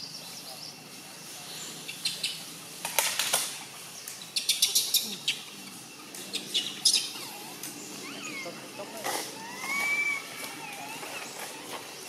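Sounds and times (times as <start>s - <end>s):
dry leaves crackling: 0.0s - 12.0s
outdoor background: 0.0s - 12.0s.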